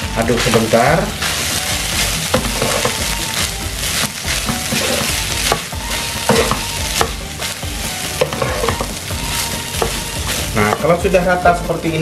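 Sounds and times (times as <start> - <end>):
rice grains rustling: 0.0 - 11.0
food sizzling in a frying pan: 0.0 - 12.0
spatula scraping a pan: 0.2 - 11.0.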